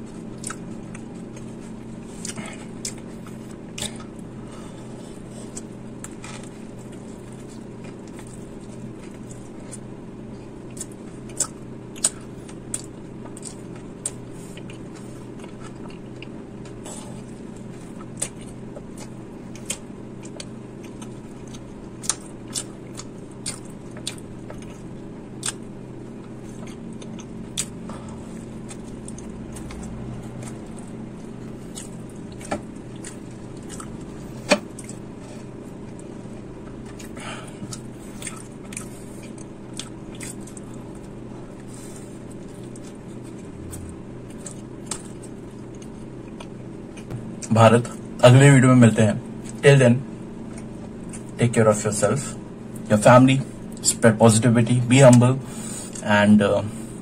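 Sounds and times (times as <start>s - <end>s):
close-miked chewing and biting: 0.0s - 4.2s, 4.9s - 48.0s
steady low hum: 0.0s - 57.0s.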